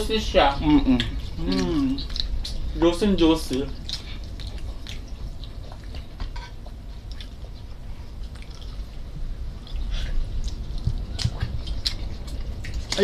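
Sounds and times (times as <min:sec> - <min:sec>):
low background rumble: 0:00.0 - 0:13.0
wet chewing and lip-smacking: 0:00.7 - 0:13.0.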